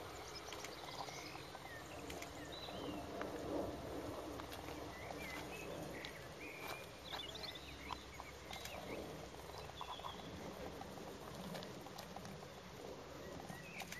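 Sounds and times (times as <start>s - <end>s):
low outdoor background noise: 0.0s - 13.9s
small birds chirping: 0.0s - 13.9s.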